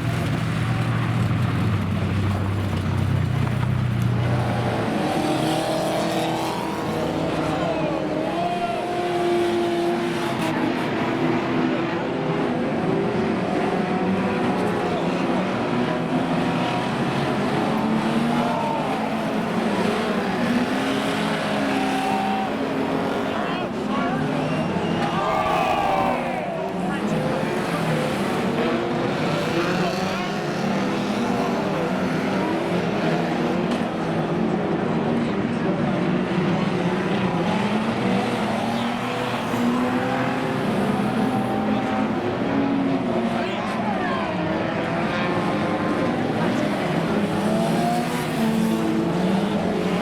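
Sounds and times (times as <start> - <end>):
racing car engines revving: 0.0 - 50.0.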